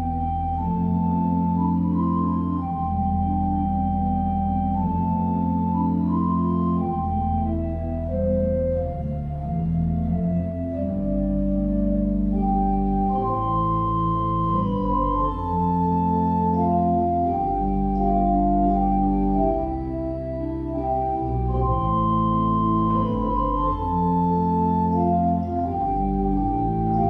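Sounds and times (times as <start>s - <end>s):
church organ chords: 0.0s - 27.0s.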